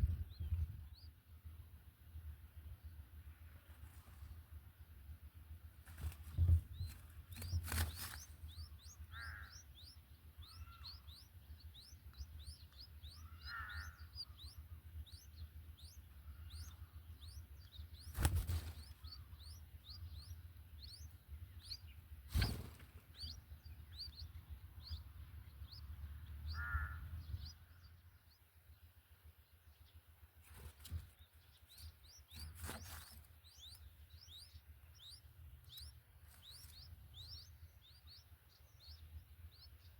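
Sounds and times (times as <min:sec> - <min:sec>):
birds chirping: 0:00.0 - 0:39.9
lower bird calls: 0:06.0 - 0:28.8, 0:30.6 - 0:39.9.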